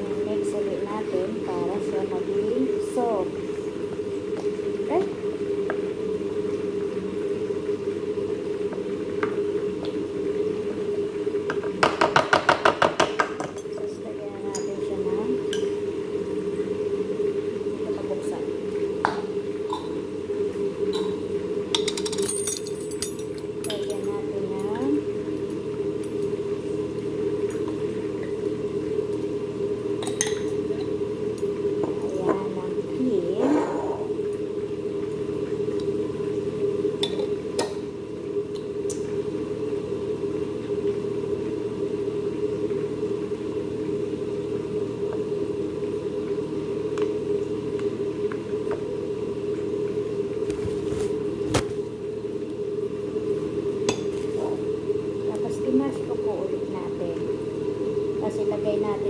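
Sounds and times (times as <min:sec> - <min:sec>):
background hum: 0:00.0 - 0:59.0.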